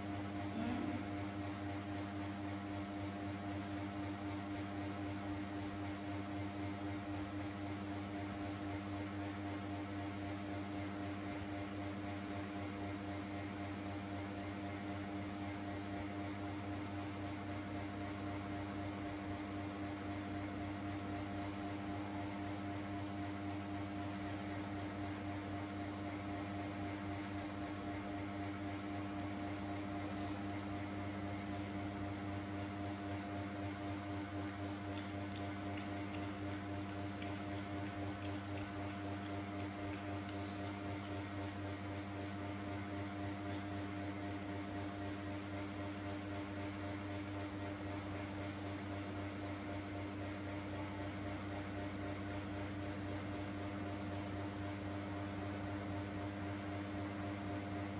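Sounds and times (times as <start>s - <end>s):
steady machine hum: 0.0s - 57.9s.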